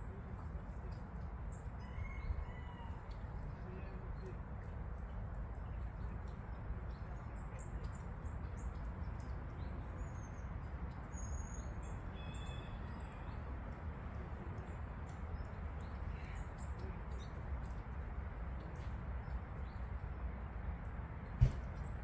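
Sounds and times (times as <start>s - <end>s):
low outdoor background noise: 0.0s - 22.0s
small birds chirping: 0.1s - 20.2s.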